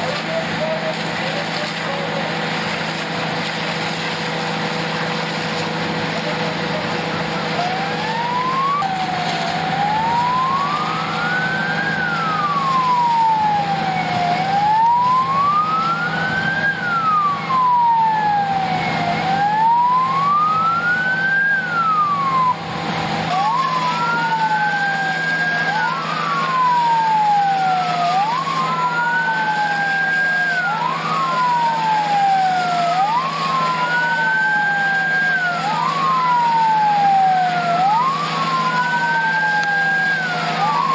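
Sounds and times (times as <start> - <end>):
fire truck sirens wailing: 0.0 - 40.9
low engine hum: 0.0 - 40.9.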